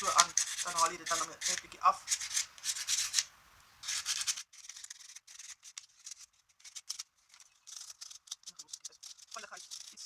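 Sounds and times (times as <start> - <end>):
sandpaper scratching painted surface: 0.0 - 10.0.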